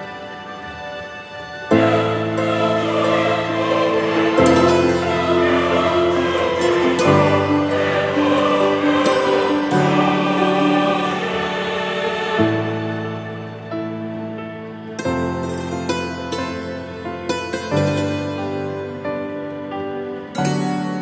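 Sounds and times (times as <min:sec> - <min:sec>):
choir singing over sustained chords: 0:00.0 - 0:21.0.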